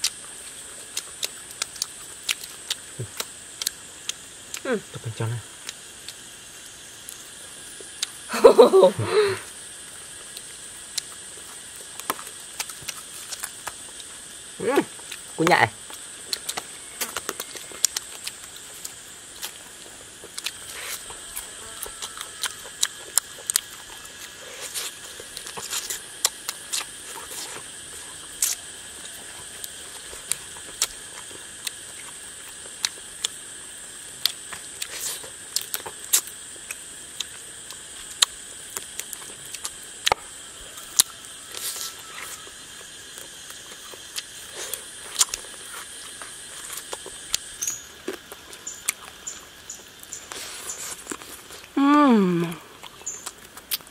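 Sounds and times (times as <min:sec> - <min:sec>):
chewing smacks and clicks: 0:00.0 - 0:04.7, 0:05.6 - 0:06.2, 0:10.3 - 0:14.1, 0:15.0 - 0:19.6, 0:20.2 - 0:33.5, 0:34.2 - 0:40.2, 0:41.0 - 0:51.8, 0:52.5 - 0:53.9
steady high hum: 0:00.0 - 0:53.9.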